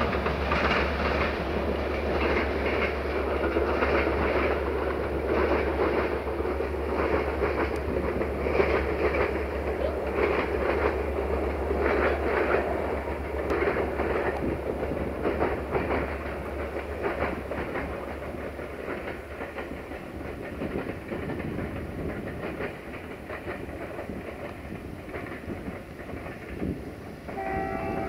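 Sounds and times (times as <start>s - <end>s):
low train rumble: 0.0s - 28.0s
train wheels clacking over rail joints: 0.0s - 28.0s.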